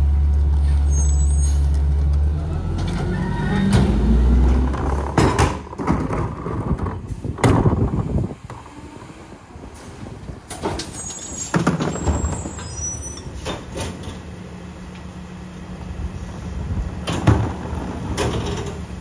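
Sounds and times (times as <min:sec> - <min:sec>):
garbage truck engine rumble: 0:00.0 - 0:19.0.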